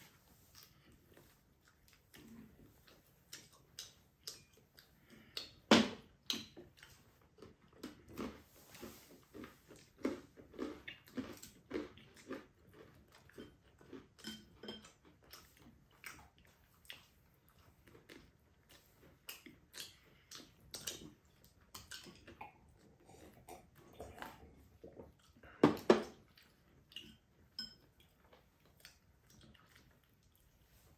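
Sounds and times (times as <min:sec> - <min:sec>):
people chewing: 0:00.0 - 0:30.9.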